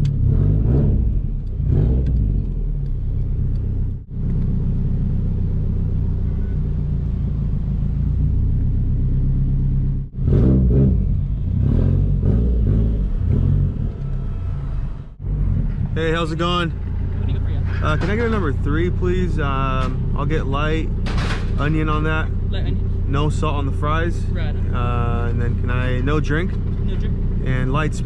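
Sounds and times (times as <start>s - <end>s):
loud car engine revving: 0.0s - 5.8s, 9.6s - 28.0s.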